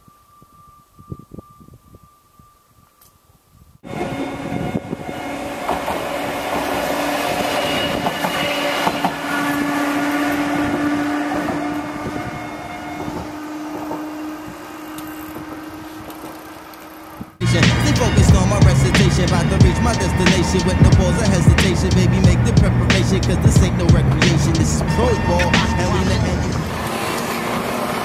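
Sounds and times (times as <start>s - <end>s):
train rumbling on rails: 3.8s - 28.0s.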